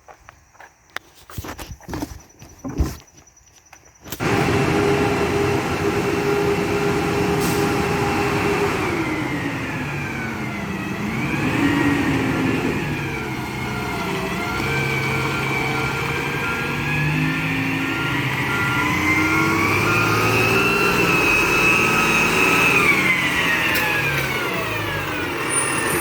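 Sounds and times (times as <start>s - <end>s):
truck engine running: 4.2s - 26.0s.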